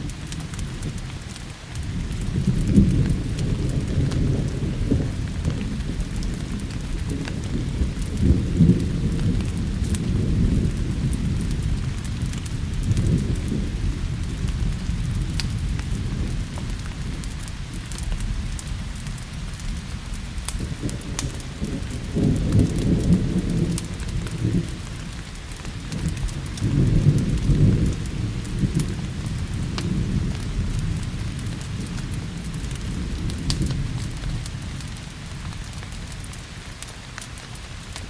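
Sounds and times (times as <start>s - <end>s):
rolling thunder: 0.0s - 36.4s
steady rain: 0.0s - 38.0s
wood fire crackling: 0.0s - 38.0s.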